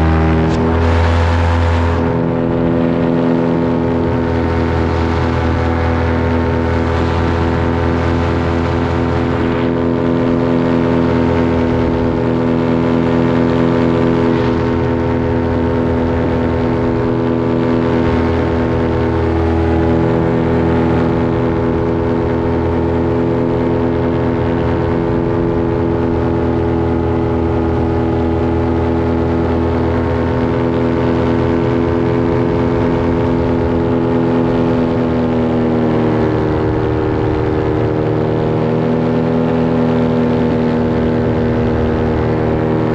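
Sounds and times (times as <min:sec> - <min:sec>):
paraglider engine and propeller drone: 0:00.0 - 0:42.9.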